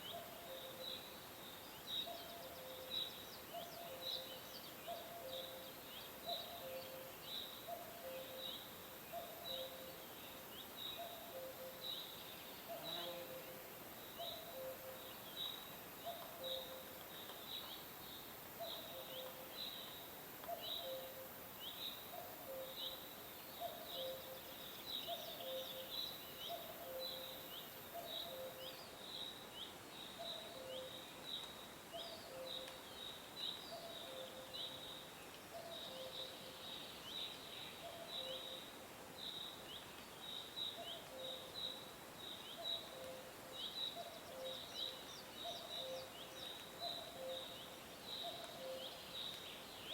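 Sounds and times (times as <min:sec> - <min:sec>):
background hiss: 0:00.0 - 0:49.9
songbirds chirping: 0:00.0 - 0:49.9.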